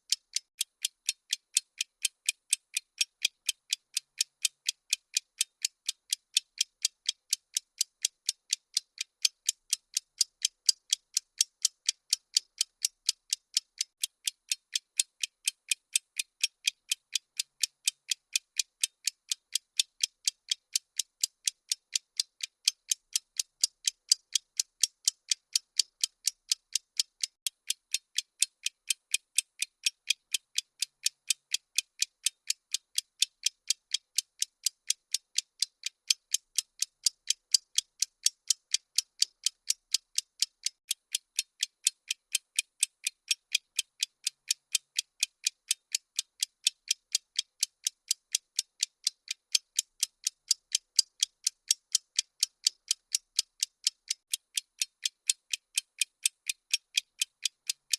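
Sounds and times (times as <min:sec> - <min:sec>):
timer ticking: 0:00.0 - 0:57.9.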